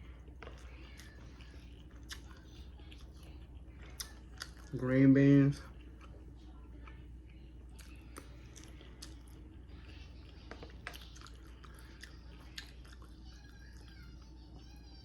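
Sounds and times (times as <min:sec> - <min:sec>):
chewing green beans: 0:00.0 - 0:15.0.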